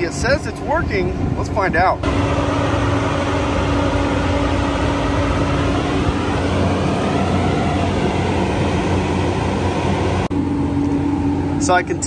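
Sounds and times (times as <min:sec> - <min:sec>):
generator droning: 0:00.0 - 0:12.0.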